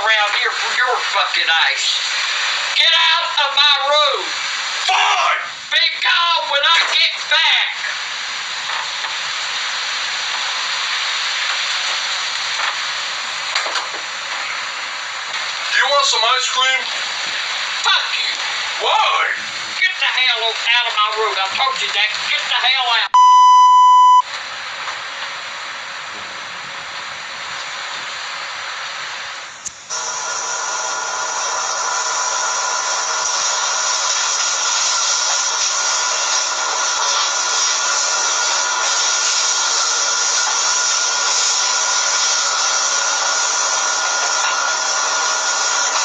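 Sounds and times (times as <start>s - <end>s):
steady hiss: 0.0s - 23.1s, 24.3s - 46.0s.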